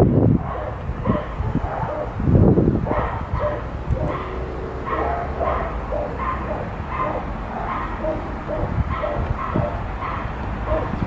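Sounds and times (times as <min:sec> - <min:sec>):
dog barking: 0:00.4 - 0:02.2, 0:02.8 - 0:11.0.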